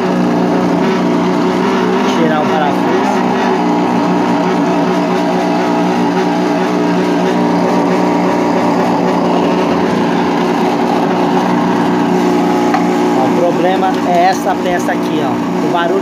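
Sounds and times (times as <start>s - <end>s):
loud mechanical drone: 0.0s - 16.0s.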